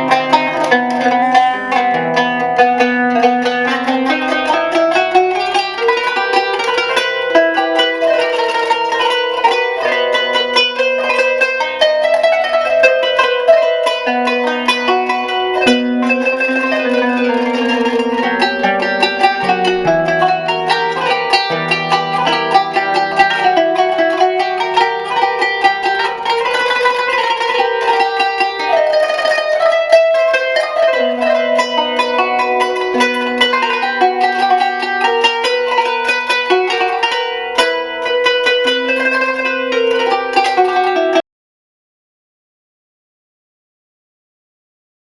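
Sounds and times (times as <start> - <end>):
plucked string instrument music: 0.0 - 41.2.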